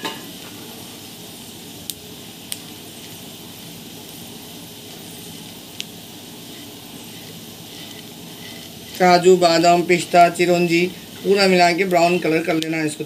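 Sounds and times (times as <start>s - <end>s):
nuts sizzling in pan: 0.0s - 13.0s.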